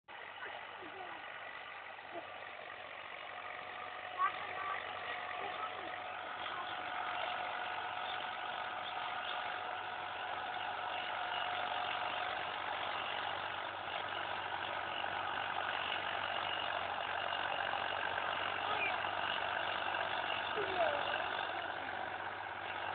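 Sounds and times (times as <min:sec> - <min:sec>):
tractor engine running: 0:00.1 - 0:22.9.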